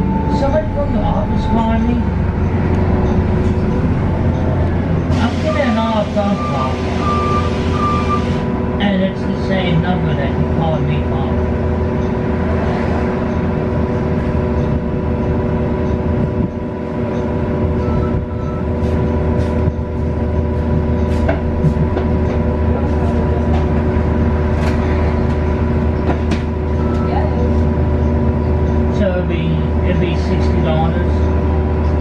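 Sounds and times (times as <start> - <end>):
bus engine hum: 0.0 - 32.0.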